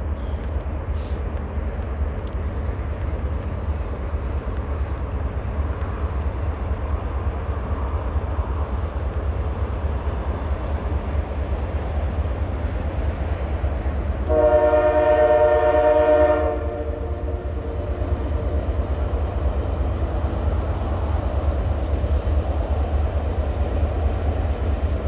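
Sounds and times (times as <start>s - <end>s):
distant train rumbling: 0.0s - 25.0s.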